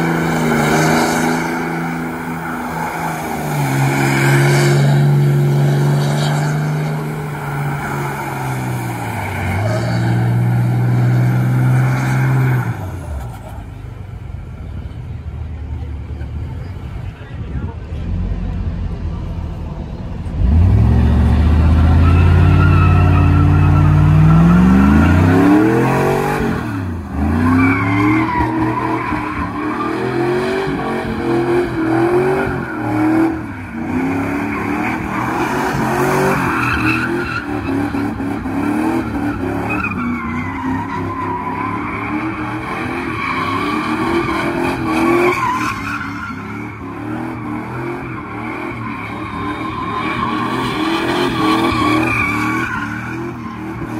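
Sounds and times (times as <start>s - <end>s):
truck engine revving: 0.0s - 13.8s, 17.9s - 53.9s
tyres squealing on pavement: 0.0s - 13.9s, 20.4s - 53.9s.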